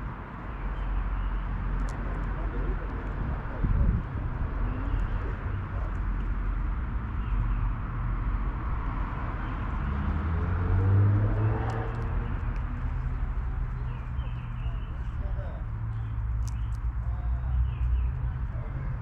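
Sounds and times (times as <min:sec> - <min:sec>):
low rumble of distant traffic: 0:00.0 - 0:19.0.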